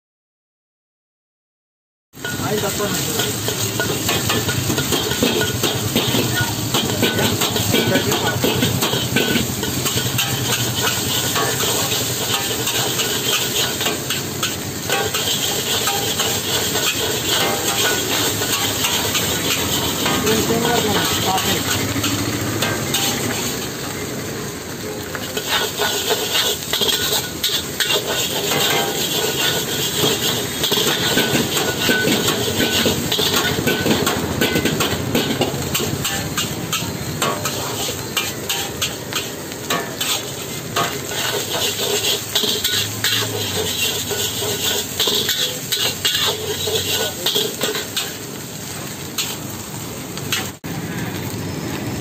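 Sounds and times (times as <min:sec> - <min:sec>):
metal spatula scraping wok: 0:02.2 - 0:50.7
sizzling hiss: 0:02.2 - 0:52.0.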